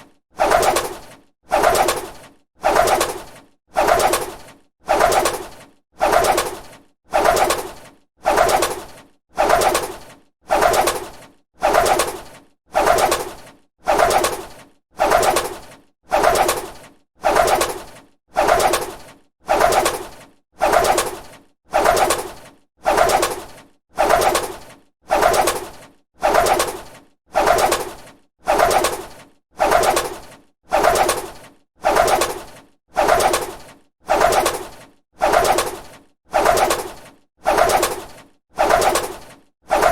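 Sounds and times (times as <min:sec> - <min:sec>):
bird wings flapping: 0:00.0 - 0:39.9.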